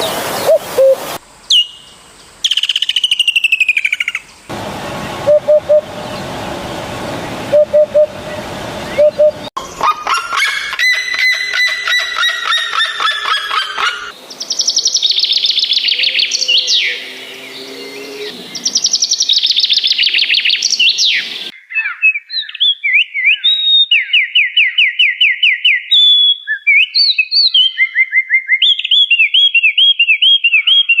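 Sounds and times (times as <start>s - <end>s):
bird calls and song: 0.0s - 6.3s, 7.6s - 31.0s.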